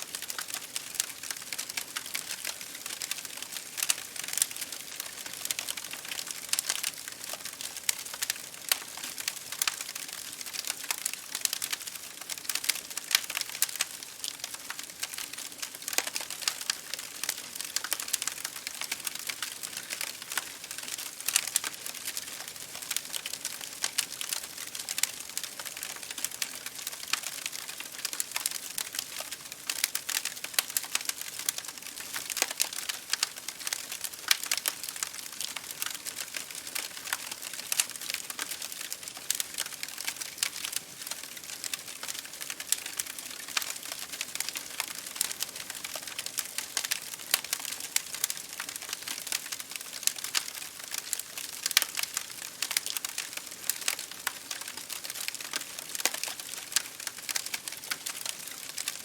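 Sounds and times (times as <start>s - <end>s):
rain striking a window: 0.0s - 59.0s
wood fire crackling and popping: 0.0s - 59.0s.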